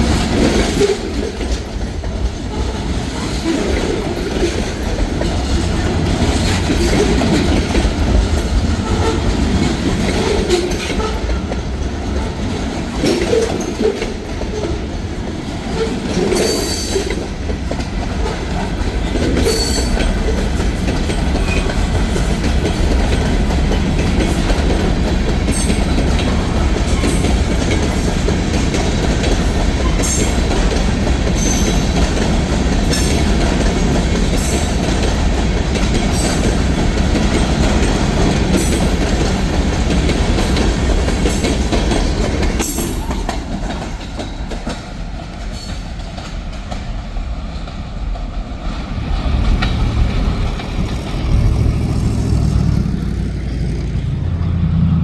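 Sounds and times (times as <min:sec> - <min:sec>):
wheels clicking over rail joints: 0:00.0 - 0:54.6
freight train cars rumbling past: 0:00.0 - 0:55.0.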